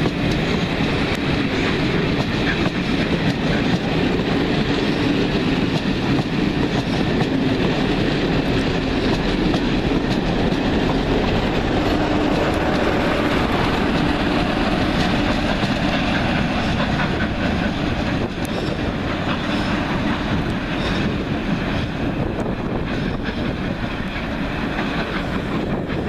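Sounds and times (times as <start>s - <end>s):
train coaches rolling past: 0.0s - 26.0s.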